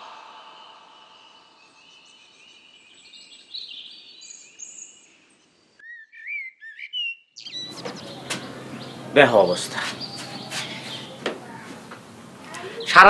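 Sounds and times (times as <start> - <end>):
birds chirping: 1.3 - 13.0
bird warbling song: 1.5 - 13.0.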